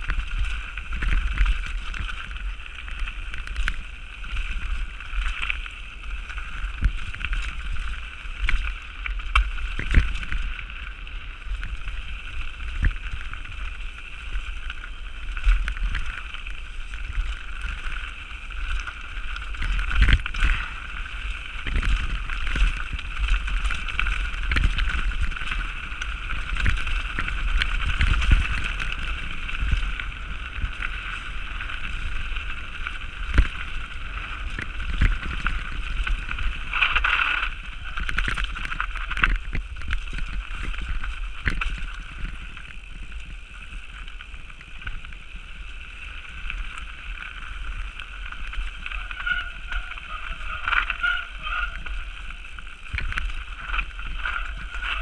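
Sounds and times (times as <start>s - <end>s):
bike knocking and rattling: 0.0s - 55.0s
tyres rumbling over rocks: 0.0s - 55.0s.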